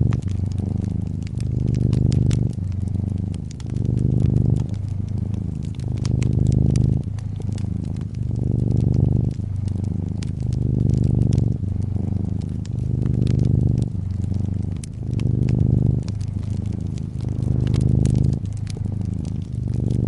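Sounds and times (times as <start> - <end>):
cat purring: 0.0 - 20.0
wood fire crackling and popping: 0.0 - 20.0.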